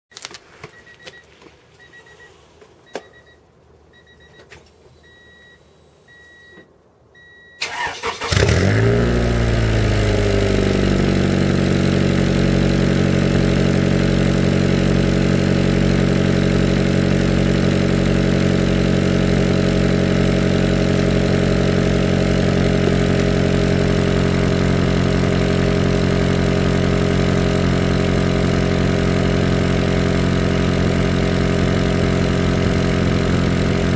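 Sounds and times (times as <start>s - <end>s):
car engine cranking and idling: 6.6s - 33.9s.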